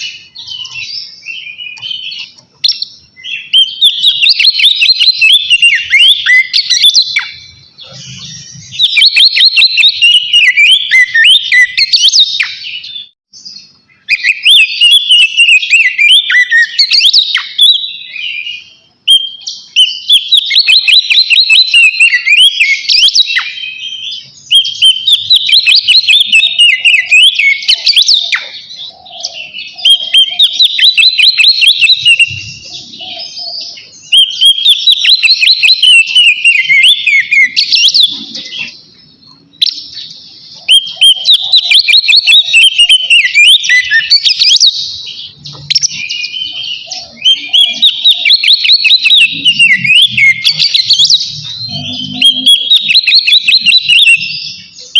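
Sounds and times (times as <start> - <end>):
bird singing whistled notes: 0.0 - 54.9.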